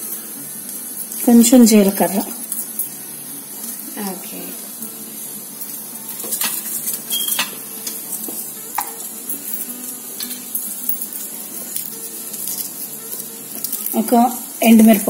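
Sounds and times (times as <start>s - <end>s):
hot oil sizzling with seeds: 0.0s - 15.0s.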